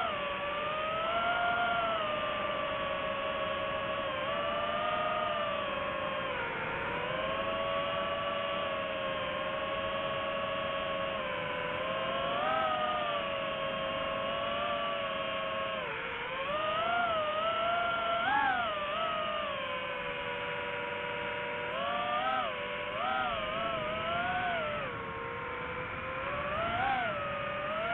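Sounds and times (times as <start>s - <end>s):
drone motors whining: 0.0s - 27.9s.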